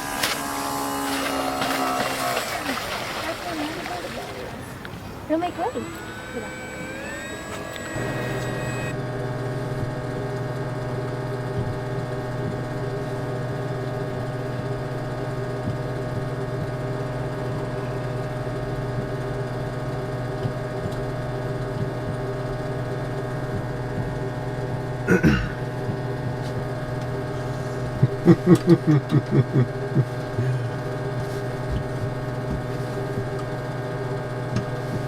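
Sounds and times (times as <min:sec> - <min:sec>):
machine humming steadily: 0:00.0 - 0:35.0.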